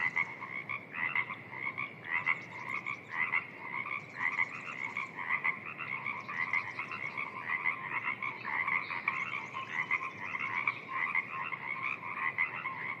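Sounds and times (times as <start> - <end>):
frogs croaking: 0.0 - 13.0.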